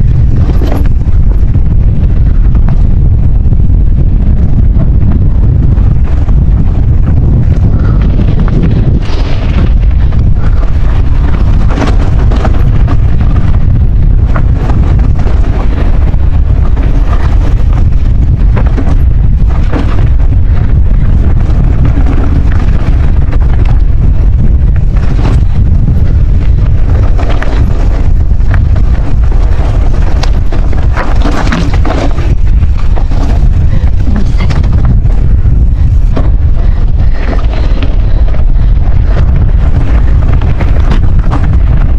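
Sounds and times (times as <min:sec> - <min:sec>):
gusts and rattles: 0:00.0 - 0:41.9
wind buffeting microphone: 0:00.0 - 0:41.9.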